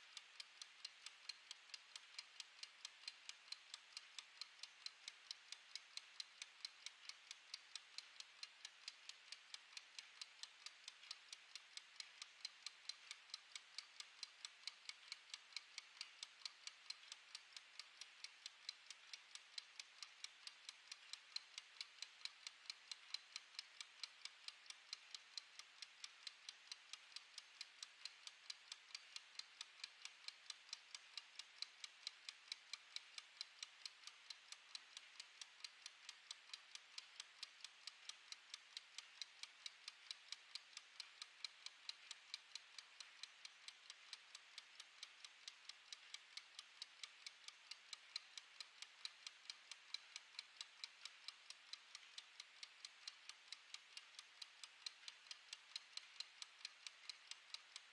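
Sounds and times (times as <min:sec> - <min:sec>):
kitchen timer ticking: 0:00.0 - 0:57.9.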